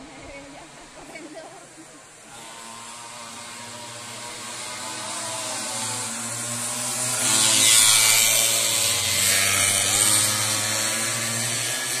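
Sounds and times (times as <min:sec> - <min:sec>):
racing motorcycles passing at speed: 0:02.2 - 0:12.0.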